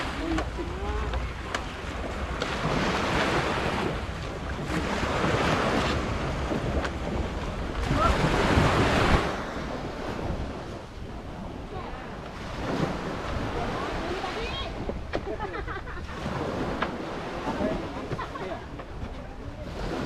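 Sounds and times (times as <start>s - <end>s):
sea waves: 0.0s - 20.0s
wind buffeting the microphone: 0.0s - 20.0s.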